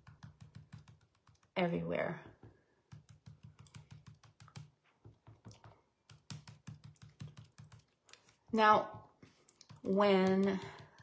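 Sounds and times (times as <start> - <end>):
sponge dauber tapping: 0.0 - 11.0.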